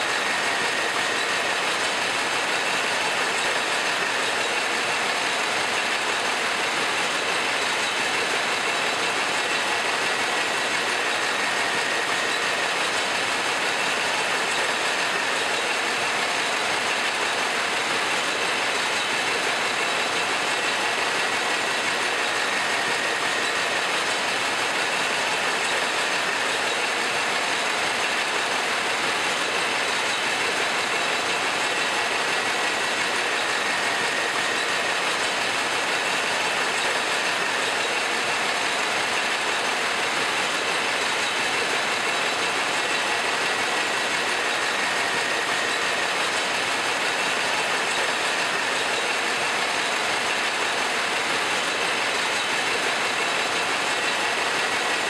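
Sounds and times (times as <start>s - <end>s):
packaging machine running: 0.0s - 55.0s.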